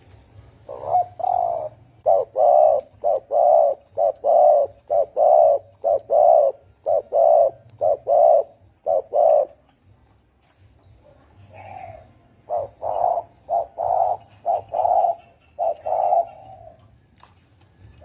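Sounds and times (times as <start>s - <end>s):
dove cooing: 0.7s - 9.7s, 11.4s - 16.9s.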